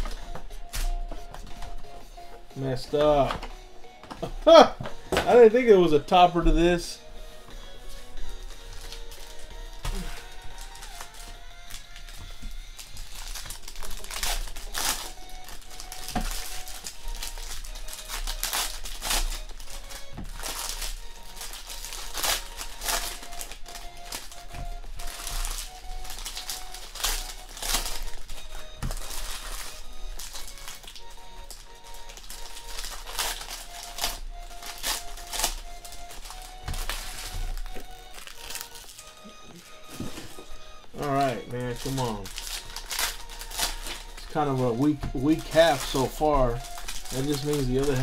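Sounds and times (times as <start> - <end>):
faint background music: 0.0 - 48.0
foil wrapper crinkling: 5.3 - 7.0, 7.9 - 48.0.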